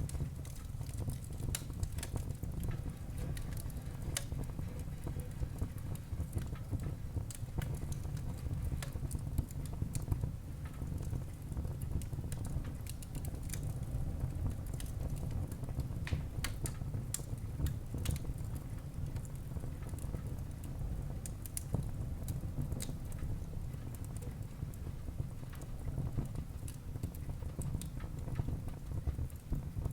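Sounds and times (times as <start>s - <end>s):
fire flames rumbling: 0.0s - 29.9s
wood crackling and popping: 0.0s - 29.9s.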